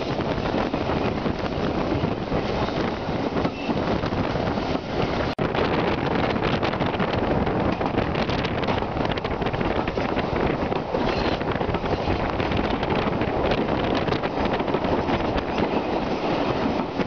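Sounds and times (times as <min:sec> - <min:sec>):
train running noise: 0:00.0 - 0:17.0
wind rushing over microphone: 0:00.0 - 0:17.0.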